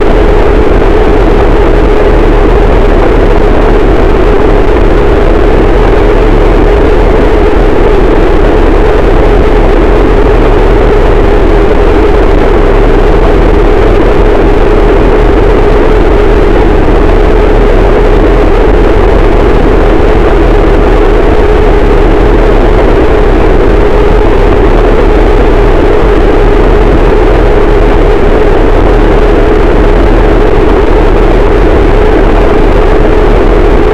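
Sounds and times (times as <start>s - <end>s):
harsh distorted static noise: 0.0s - 33.9s.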